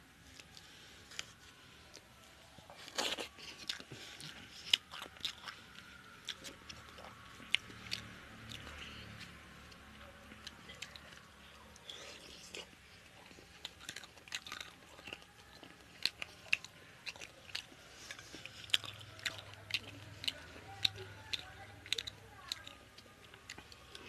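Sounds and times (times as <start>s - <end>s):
man chewing and smacking: 0.2s - 24.0s.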